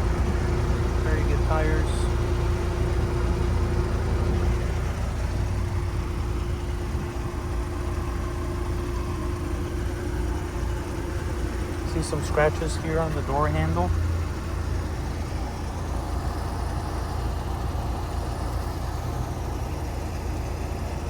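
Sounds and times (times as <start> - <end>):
constant hum: 0.0 - 21.0
low mechanical rumble: 0.0 - 21.0.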